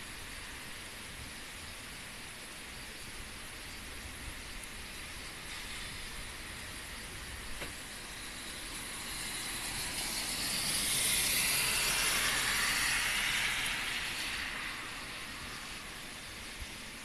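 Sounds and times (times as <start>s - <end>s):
heavy rain on asphalt road: 0.0s - 17.0s.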